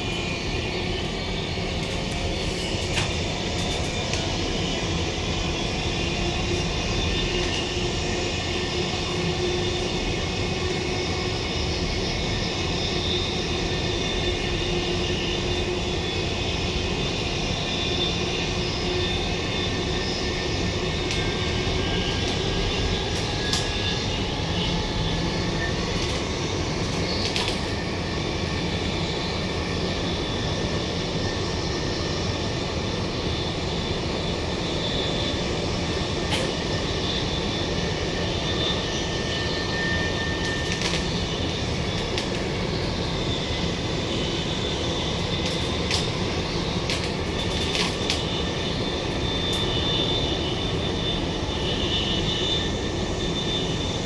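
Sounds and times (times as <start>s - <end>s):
faint high whine: 0.0s - 54.0s
train wheels rumbling on track: 0.0s - 54.0s.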